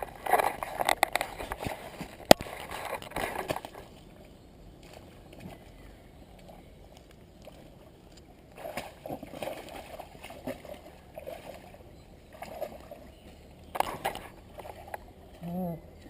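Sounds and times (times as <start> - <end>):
water splashing in stream: 0.0 - 16.0.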